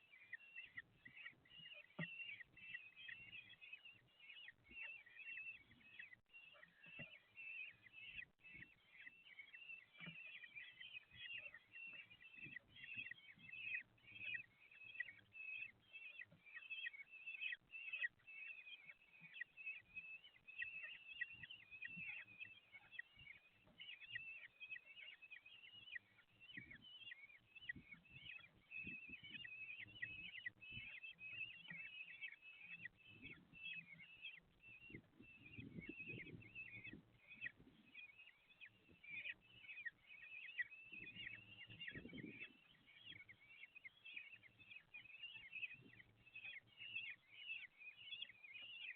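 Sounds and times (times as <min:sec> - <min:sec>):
bird chicks chirping: 0:00.0 - 0:48.9.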